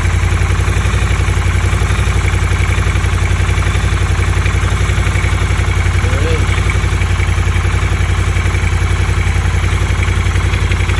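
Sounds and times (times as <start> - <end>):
engine knock: 0.0 - 10.9
motorcycle engine idling: 0.0 - 10.9.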